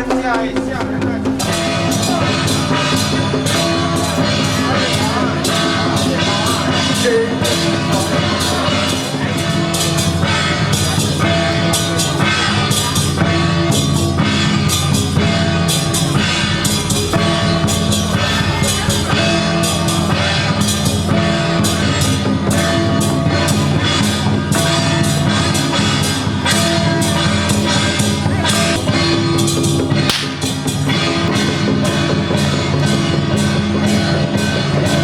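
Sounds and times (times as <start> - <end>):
drum kit steady beat: 0.0 - 35.0
loud rock music: 0.0 - 35.0.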